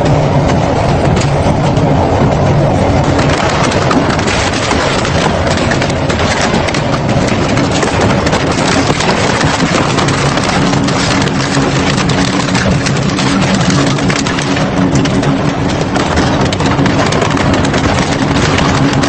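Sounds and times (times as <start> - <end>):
shredder cracking and crunching: 3.0 - 19.0.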